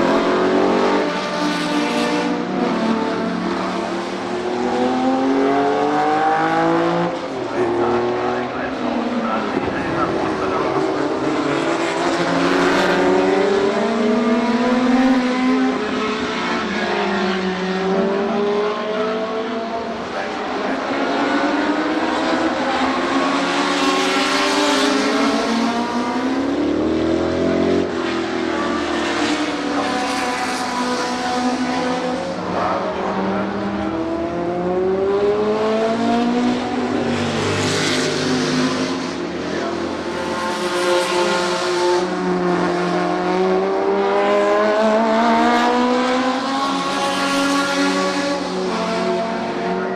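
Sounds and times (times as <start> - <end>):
racing car engines passing: 0.0 - 49.9.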